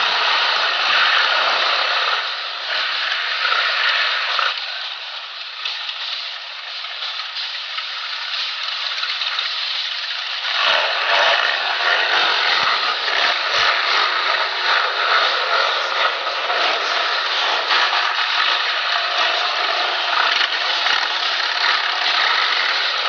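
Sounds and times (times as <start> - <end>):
tank engines running: 0.0 - 23.0.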